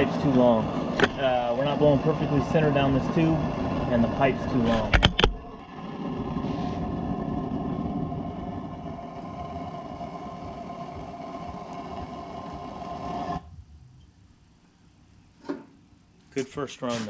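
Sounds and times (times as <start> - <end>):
burner rushing: 0.0 - 14.8.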